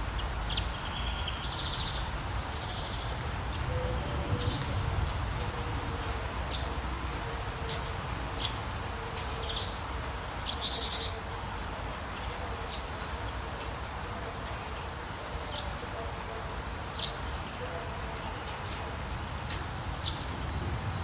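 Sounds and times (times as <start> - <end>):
rain: 0.0 - 21.0
songbirds chirping: 0.0 - 21.0.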